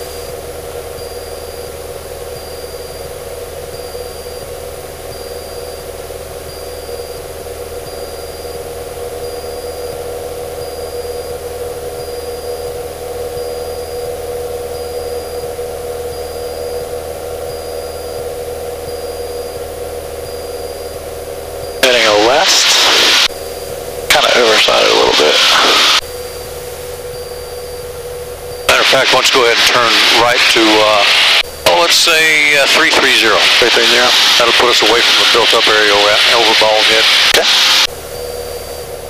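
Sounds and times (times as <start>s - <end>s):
aircraft engine and propeller droning: 0.0s - 39.0s.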